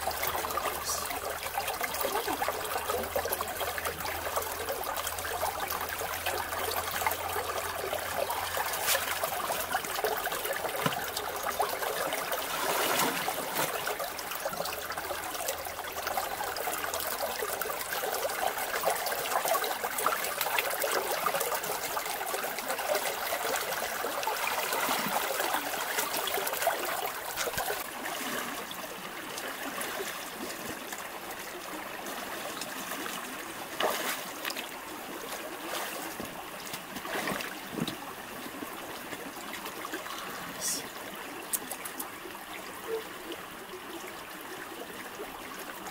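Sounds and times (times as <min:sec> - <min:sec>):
stream trickling over rocks: 0:00.0 - 0:45.9.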